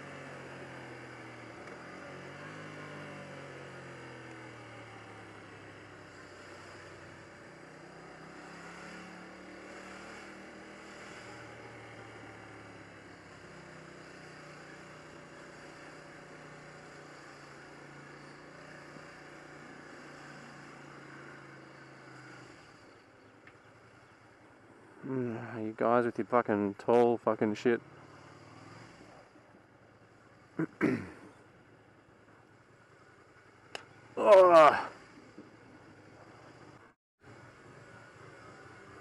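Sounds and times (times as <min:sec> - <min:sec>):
car engine hum: 0:00.0 - 0:39.0
tyre and road noise: 0:00.0 - 0:39.0.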